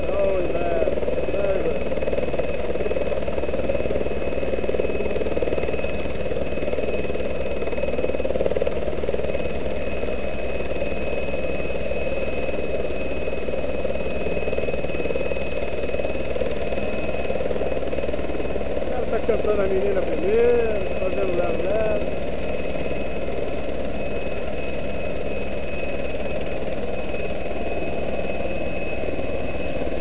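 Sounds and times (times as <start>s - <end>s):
helicopter turbine whine: 0.0s - 30.0s.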